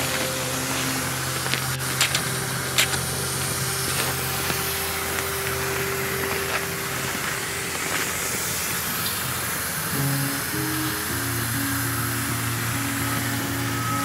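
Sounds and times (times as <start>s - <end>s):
atv engine humming: 0.0s - 14.0s.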